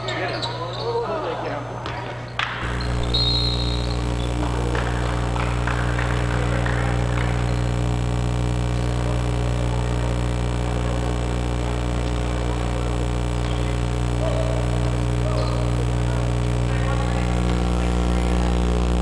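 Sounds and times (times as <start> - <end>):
low electrical hum: 2.6 - 19.0.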